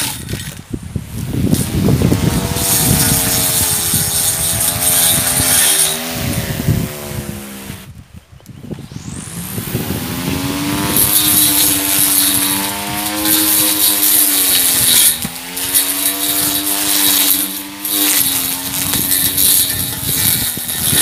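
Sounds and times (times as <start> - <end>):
grass being cut: 0.0 - 8.0, 8.6 - 21.0
electric grass trimmer whining: 1.2 - 8.0, 8.8 - 21.0.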